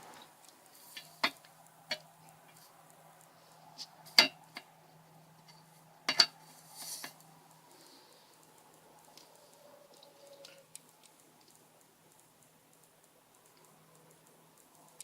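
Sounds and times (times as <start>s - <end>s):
sharp clicks: 0.2s - 4.8s, 7.1s - 15.0s.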